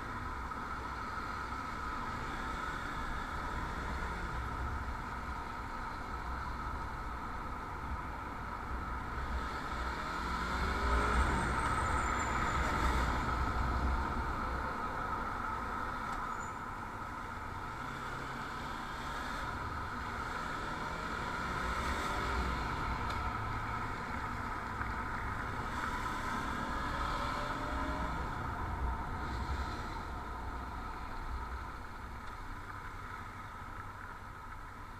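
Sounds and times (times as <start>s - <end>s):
road noise: 0.0s - 34.9s
vehicle engine: 0.0s - 34.9s.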